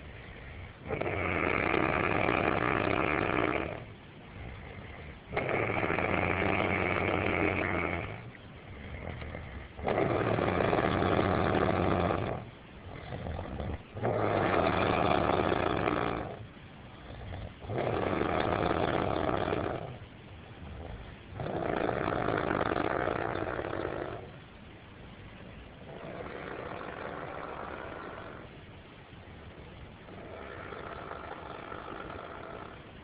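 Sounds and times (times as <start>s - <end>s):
quiet breathing: 0.0s - 33.0s
loud snoring: 0.8s - 16.4s, 17.0s - 20.0s, 20.7s - 24.3s, 25.9s - 28.5s, 30.1s - 32.8s.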